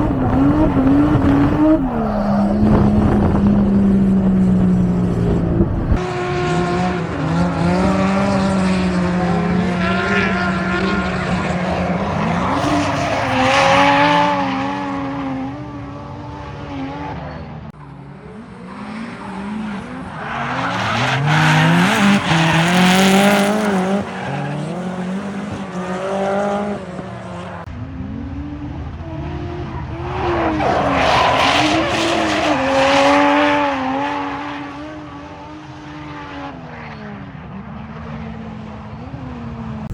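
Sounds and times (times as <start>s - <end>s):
car engine revving: 0.0s - 38.3s.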